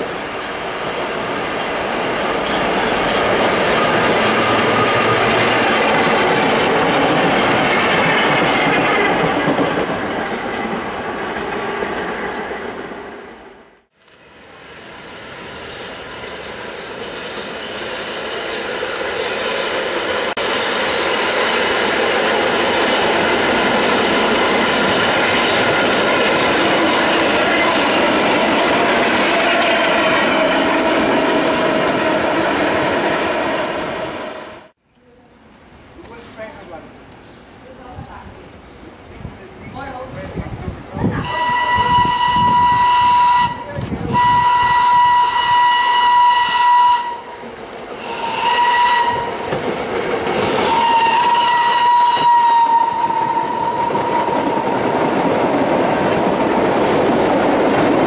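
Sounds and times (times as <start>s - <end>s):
wheels on rail: 0.0s - 34.8s, 35.7s - 58.0s
subway cars passing on tracks: 0.0s - 58.0s.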